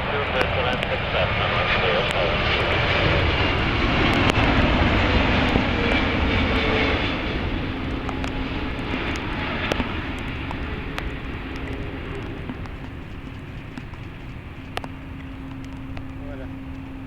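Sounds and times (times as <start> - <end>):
jet airliner passing by: 0.0 - 17.0.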